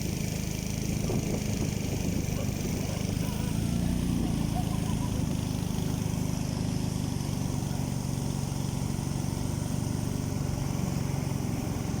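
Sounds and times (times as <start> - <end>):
boat engine chugging: 0.1 - 12.0.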